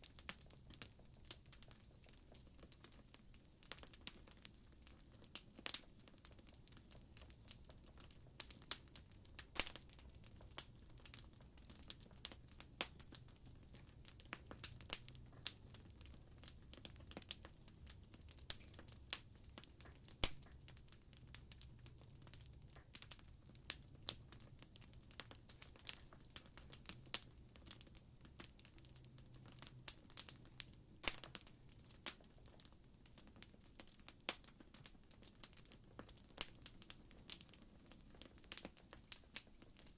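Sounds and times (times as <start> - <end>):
fire popping and snapping: 0.0 - 39.9
low rumble of burning: 0.0 - 39.9.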